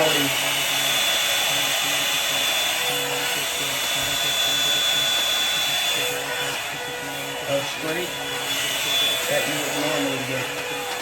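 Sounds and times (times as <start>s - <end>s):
hair dryer blowing with high whine: 0.0s - 11.0s.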